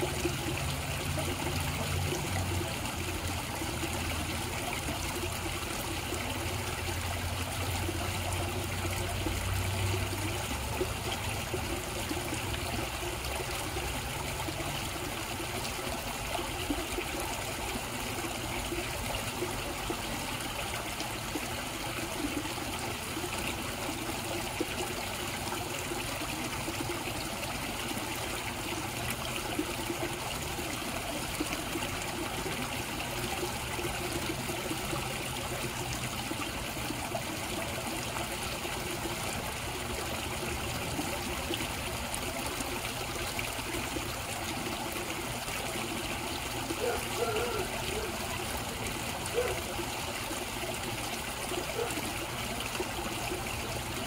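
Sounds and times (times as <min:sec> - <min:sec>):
pond water running: 0:00.0 - 0:54.0.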